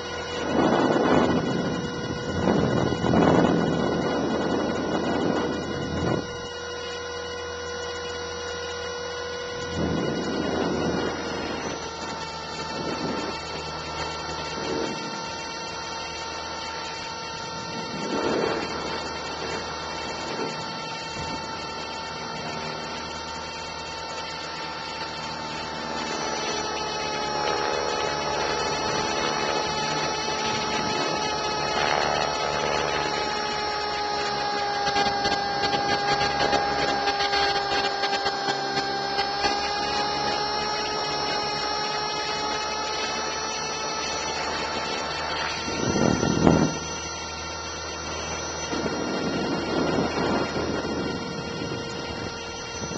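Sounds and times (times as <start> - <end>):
rc helicopter motor whine: 0.0 - 52.9
rotor noise: 0.0 - 52.9.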